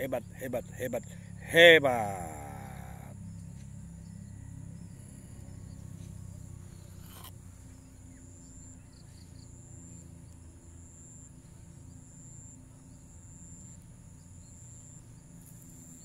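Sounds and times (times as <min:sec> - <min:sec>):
high insect trill: 0:00.0 - 0:16.0
insects buzzing: 0:00.0 - 0:16.0.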